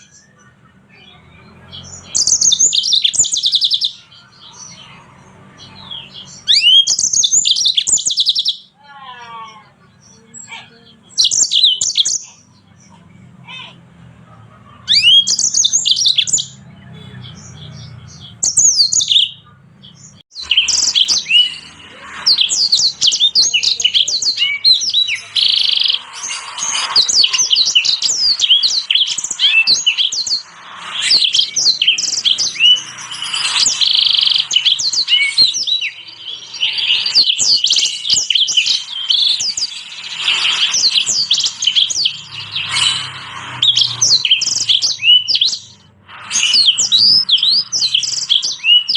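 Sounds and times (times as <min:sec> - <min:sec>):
songbirds twittering: 0:00.0 - 0:48.9.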